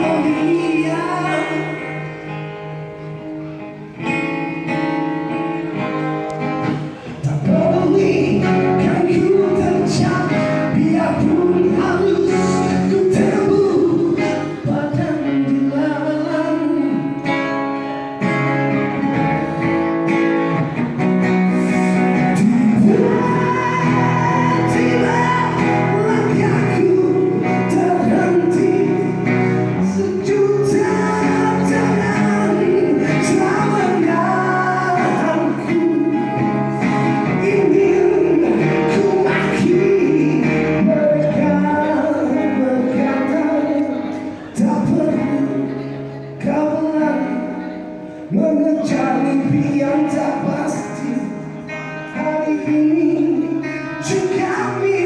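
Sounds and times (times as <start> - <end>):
live pop band music: 0.0 - 55.0.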